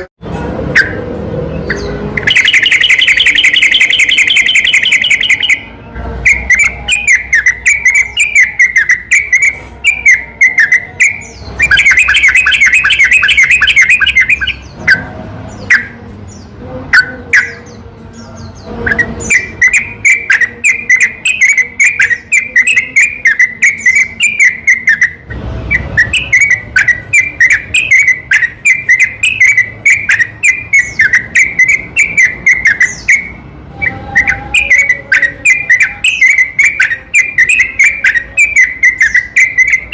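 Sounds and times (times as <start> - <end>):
bulbul chirping song: 0.7 - 39.9.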